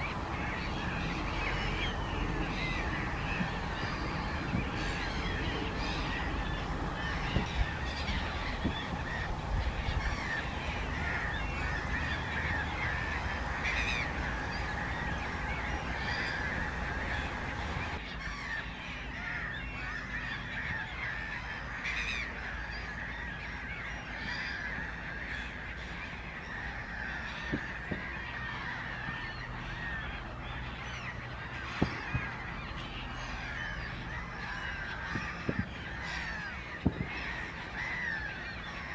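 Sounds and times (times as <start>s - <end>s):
chorus of animal calls: 0.0s - 38.9s.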